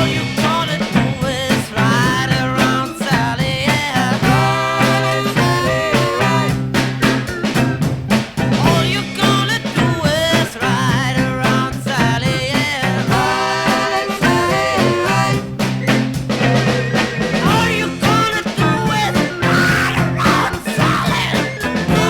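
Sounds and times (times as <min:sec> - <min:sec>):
beat band playing a song: 0:00.0 - 0:22.0.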